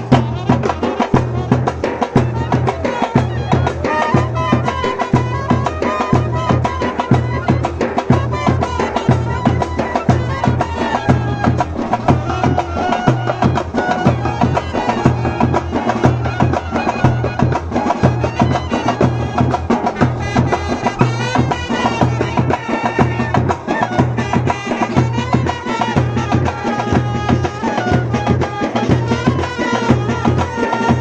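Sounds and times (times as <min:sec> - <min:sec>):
clarinet and trumpets melody: 0:00.0 - 0:31.0.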